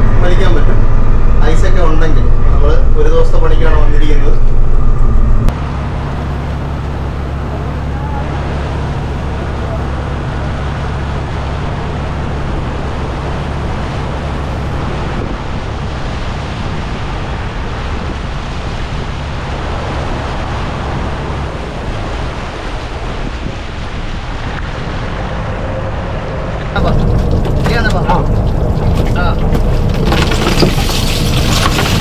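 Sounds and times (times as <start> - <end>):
boat diesel engine hum: 0.0 - 32.0
wind and water rushing: 0.0 - 32.0.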